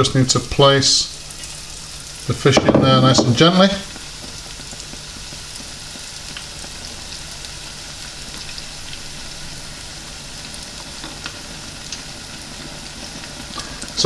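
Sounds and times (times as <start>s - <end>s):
oil sizzling with pops: 0.0s - 14.0s.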